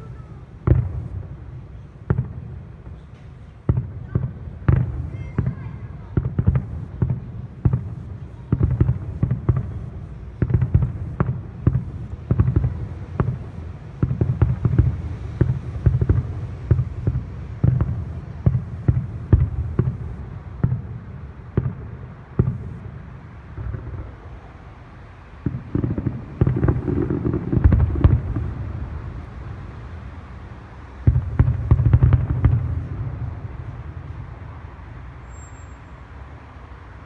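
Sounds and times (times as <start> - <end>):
fireworks booming: 0.0 - 35.9.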